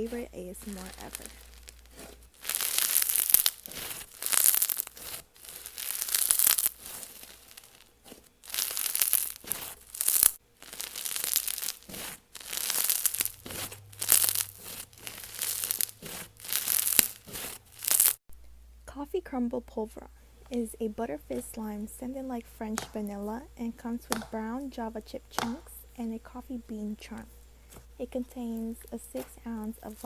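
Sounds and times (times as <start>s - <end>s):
slime crackling and fizzing: 0.0s - 18.2s, 20.5s - 30.0s.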